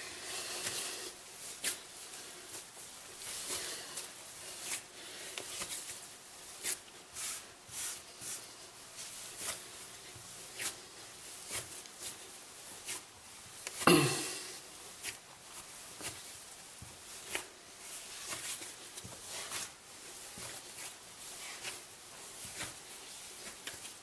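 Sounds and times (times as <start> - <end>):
hands kneading dough: 0.0 - 24.0.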